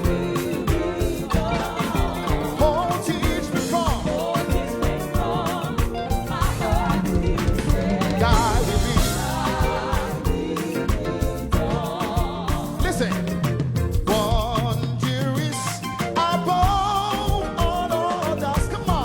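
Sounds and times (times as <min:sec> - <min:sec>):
gospel band playing: 0:00.0 - 0:19.0
steady drum beat: 0:00.0 - 0:19.0.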